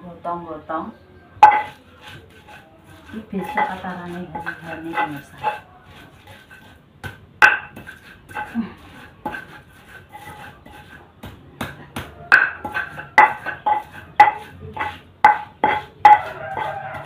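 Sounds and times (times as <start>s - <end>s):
mixing bowl clinking and scraping: 1.4s - 17.0s.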